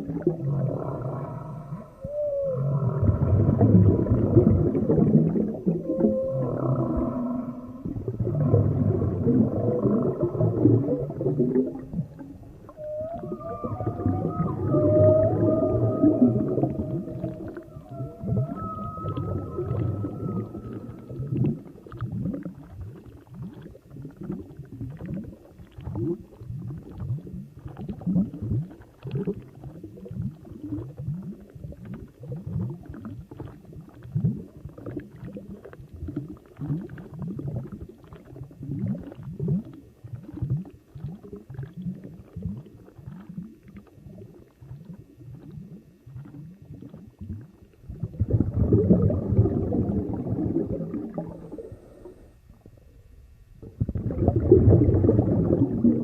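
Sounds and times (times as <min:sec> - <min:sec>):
whale-like call underwater: 0:00.0 - 0:56.0.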